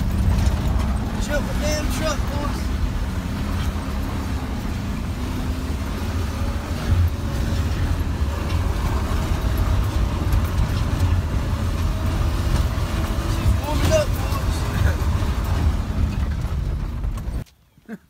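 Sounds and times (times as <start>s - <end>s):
truck engine drone from inside cab: 0.0s - 17.4s.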